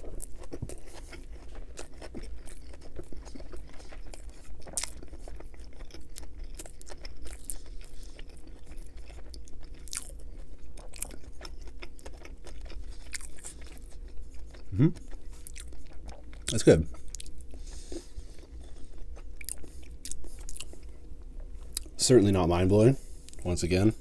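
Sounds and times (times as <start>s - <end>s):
chewing food: 0.0s - 22.0s.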